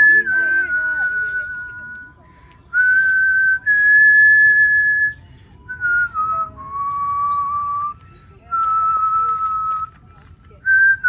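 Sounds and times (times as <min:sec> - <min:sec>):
person whistling long notes: 0:00.0 - 0:10.0, 0:10.6 - 0:11.0.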